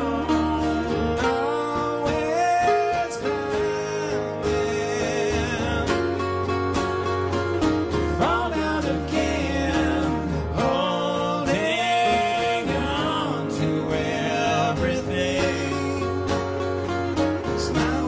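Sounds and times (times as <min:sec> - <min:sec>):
acoustic guitars playing: 0:00.0 - 0:18.0.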